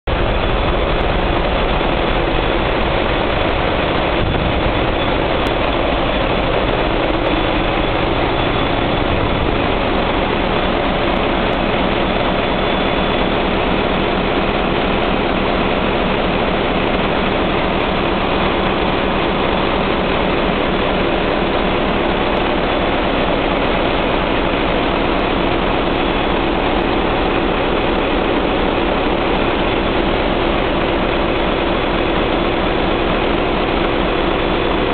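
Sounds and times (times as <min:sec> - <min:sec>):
diesel engines deep rumble: 0:00.1 - 0:31.9
high whine: 0:00.1 - 0:34.9.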